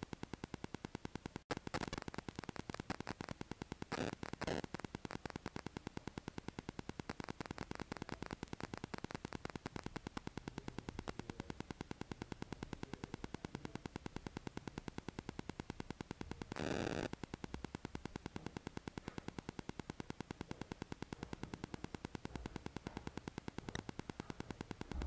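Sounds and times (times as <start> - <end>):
pulsing electrical static: 0.0 - 25.0.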